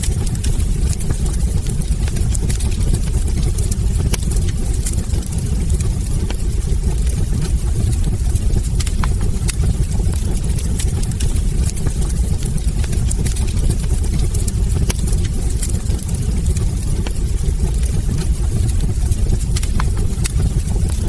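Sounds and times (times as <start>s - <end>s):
log fire crackling: 0.0s - 21.0s.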